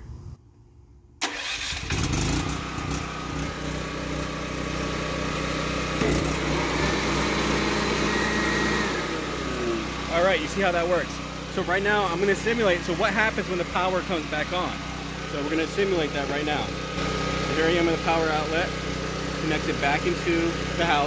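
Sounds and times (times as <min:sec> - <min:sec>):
generator engine starting and running: 0:01.2 - 0:21.0.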